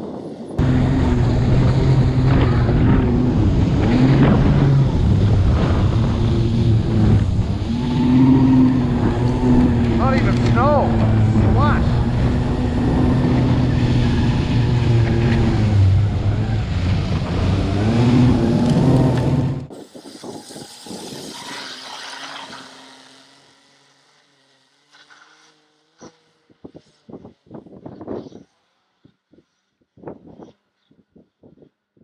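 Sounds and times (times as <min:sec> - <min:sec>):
electric snowmobile whine: 0:00.0 - 0:31.1.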